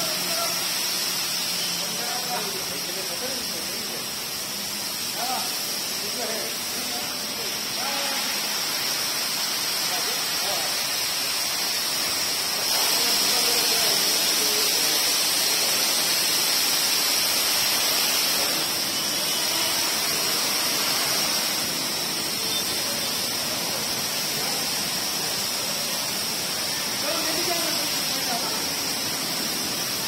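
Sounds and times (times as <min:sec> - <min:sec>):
water jets spraying hiss: 0:00.0 - 0:30.0.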